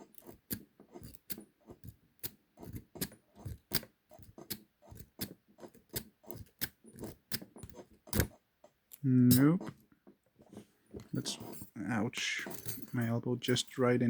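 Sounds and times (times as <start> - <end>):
lock pick clicking and scraping: 0.0 - 11.8, 12.4 - 13.1.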